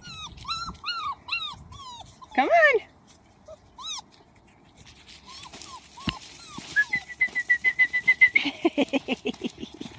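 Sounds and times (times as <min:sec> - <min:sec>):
puppies whimpering: 0:00.0 - 0:08.5.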